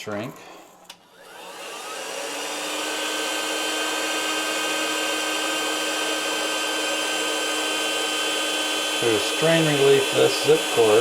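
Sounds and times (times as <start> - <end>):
heat gun fan blowing: 0.8 - 11.0.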